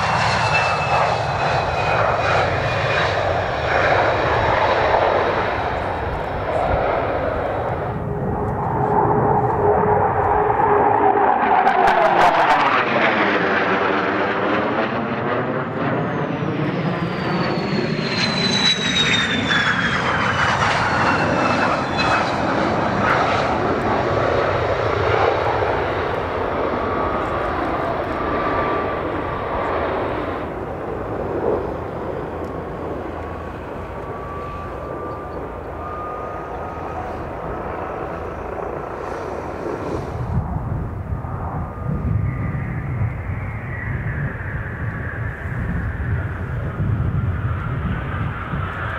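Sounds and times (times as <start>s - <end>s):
aircraft engine passing: 0.0s - 48.9s.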